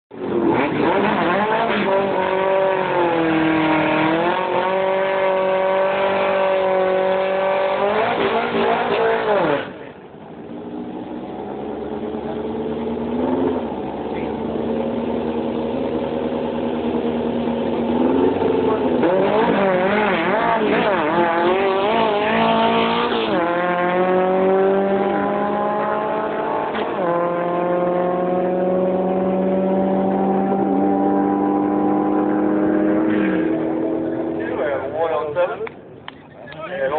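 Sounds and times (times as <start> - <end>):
car engine revving hard: 0.2 - 9.9, 12.0 - 34.7.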